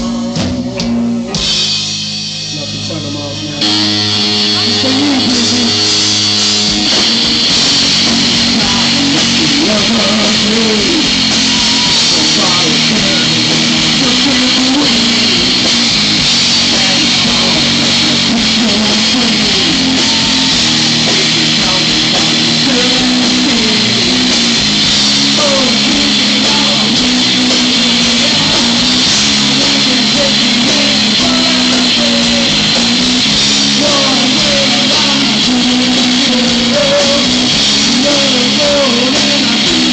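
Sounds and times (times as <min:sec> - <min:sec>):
electric guitar: 0:00.0 - 0:39.9
live rock band playing: 0:00.0 - 0:39.9.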